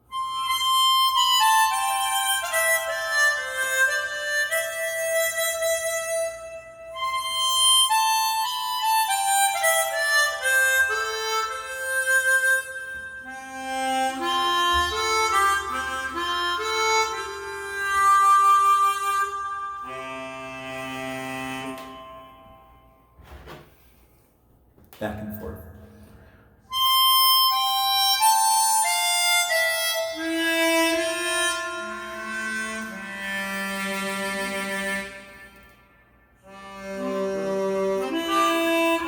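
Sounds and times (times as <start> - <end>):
harmonica melody: 0.0 - 23.2, 26.6 - 39.0.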